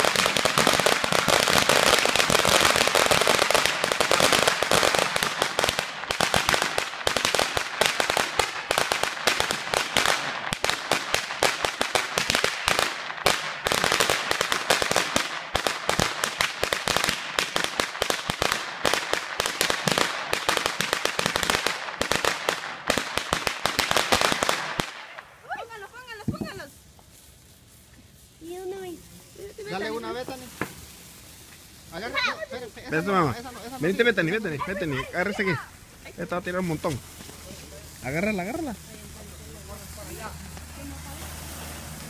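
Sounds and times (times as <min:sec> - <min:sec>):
string of firecrackers popping: 0:00.0 - 0:42.0.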